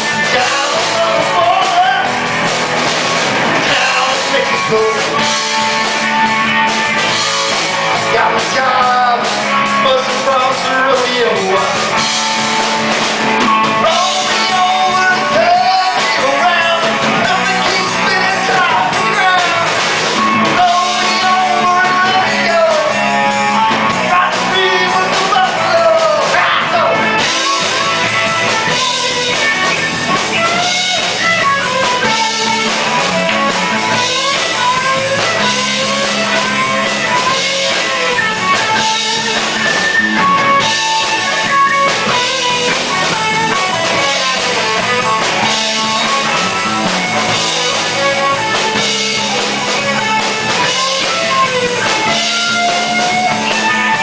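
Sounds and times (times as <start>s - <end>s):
person singing lead vocal: 0.0s - 2.4s, 3.3s - 6.1s, 7.1s - 12.6s, 13.2s - 54.0s
bass guitar: 0.0s - 54.0s
drum kit: 0.0s - 54.0s
electric guitar: 0.0s - 54.0s.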